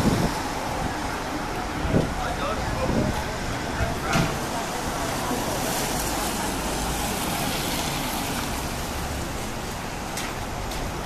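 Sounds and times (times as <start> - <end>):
street noise: 0.0 - 11.0
vehicle engine rumble: 0.0 - 11.0.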